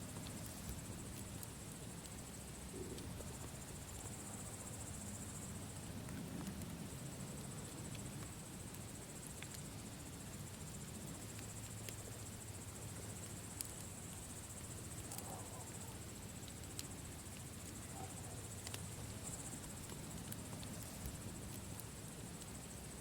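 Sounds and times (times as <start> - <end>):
campfire crackling: 0.0 - 23.0
crickets chirring: 0.0 - 23.0.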